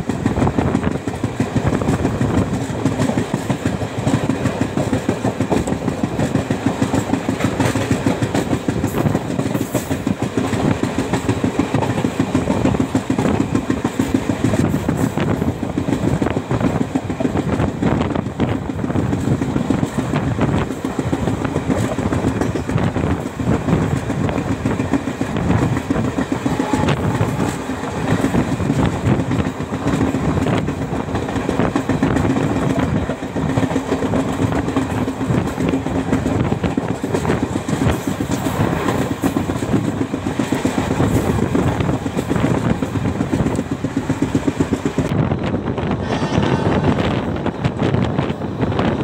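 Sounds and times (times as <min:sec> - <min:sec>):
train running at speed: 0:00.0 - 0:49.0
wheels rattling over rails: 0:00.0 - 0:49.0.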